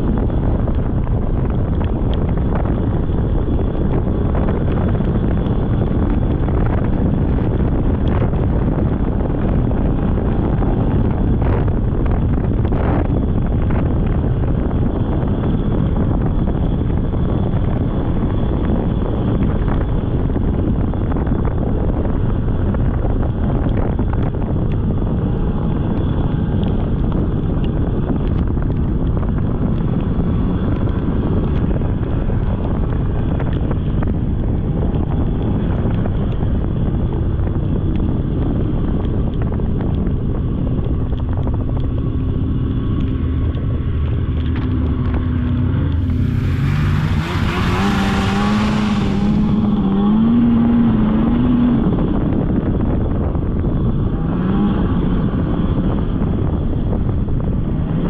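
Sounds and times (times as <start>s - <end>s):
snowmobile engine running: 0.0s - 58.0s
wind rumble on microphone: 0.0s - 58.0s.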